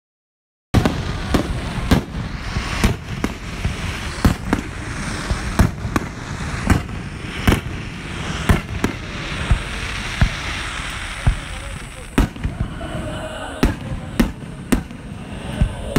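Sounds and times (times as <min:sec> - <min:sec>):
fireworks bursting: 0:00.8 - 0:15.9.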